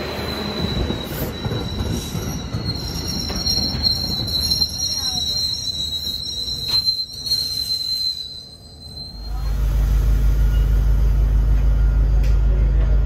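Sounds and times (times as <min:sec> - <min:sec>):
train wheels squealing: 0:00.0 - 0:12.7.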